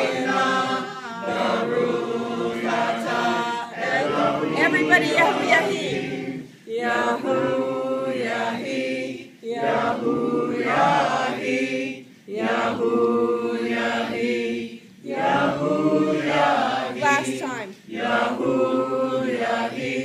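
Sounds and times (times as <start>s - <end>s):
group chanting together: 0.0s - 20.0s.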